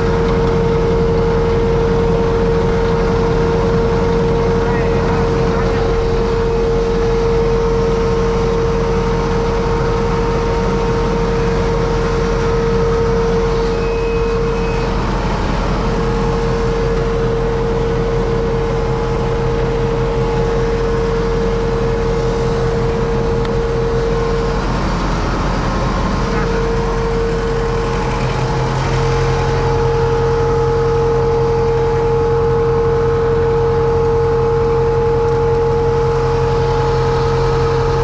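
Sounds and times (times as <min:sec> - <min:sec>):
high whine: 0:00.0 - 0:38.0
tractor diesel engine running: 0:00.0 - 0:38.0.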